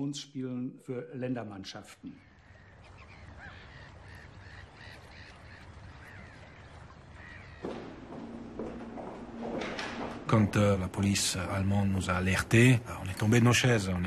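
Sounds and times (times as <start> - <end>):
birds chirping: 1.5 - 14.0.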